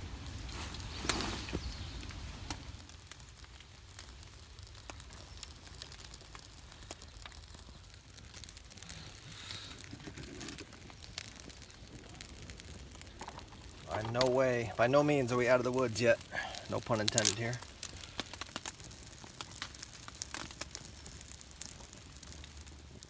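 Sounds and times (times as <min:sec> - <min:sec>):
rustle: 0:00.0 - 0:23.0
small fire crackling and popping: 0:00.0 - 0:23.0.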